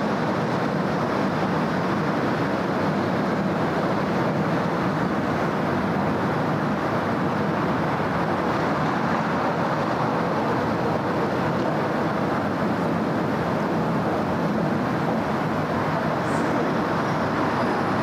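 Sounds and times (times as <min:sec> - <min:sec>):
city road traffic: 0:00.0 - 0:18.0.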